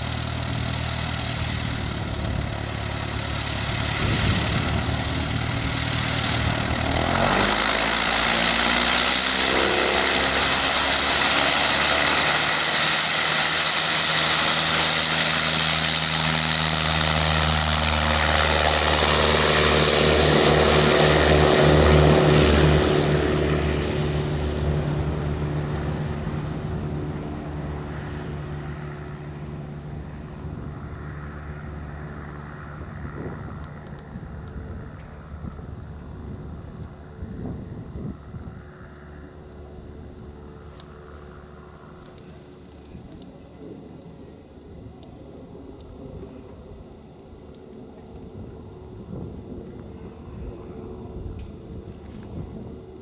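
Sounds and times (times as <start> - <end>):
propeller plane taking off: 0.0 - 53.0.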